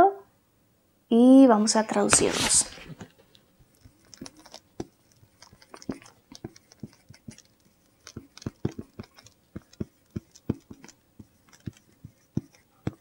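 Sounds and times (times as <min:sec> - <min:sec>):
marker writing on whiteboard: 0:02.0 - 0:13.0.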